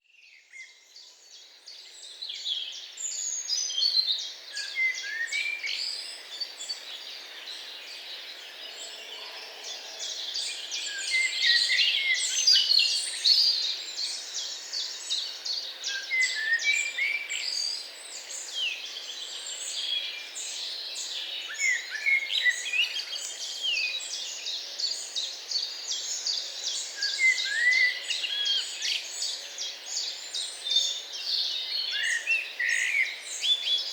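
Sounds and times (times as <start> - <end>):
birds singing and chirping: 0.4 - 33.9.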